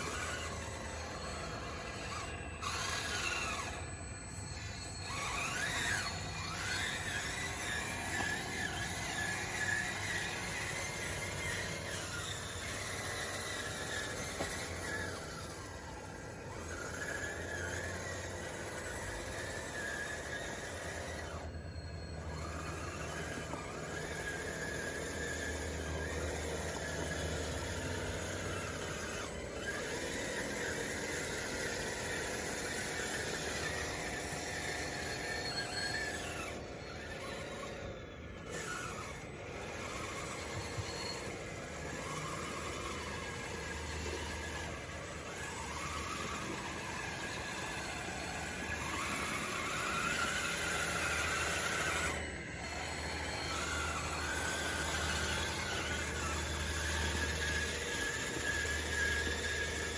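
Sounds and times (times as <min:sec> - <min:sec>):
toy bulldozer drive whining: 0:00.0 - 0:59.9.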